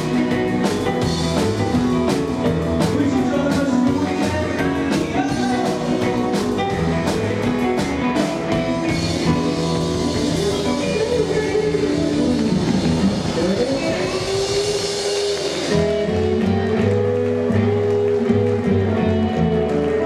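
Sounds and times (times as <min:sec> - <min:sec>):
drum kit beat: 0:00.0 - 0:20.0
rockabilly band playing: 0:00.0 - 0:20.0.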